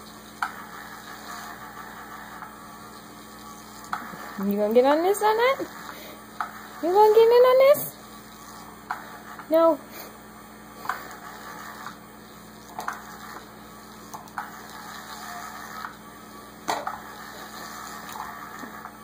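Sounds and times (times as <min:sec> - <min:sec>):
toy motor whirring: 0:00.0 - 0:09.7, 0:10.8 - 0:16.0, 0:16.8 - 0:19.0.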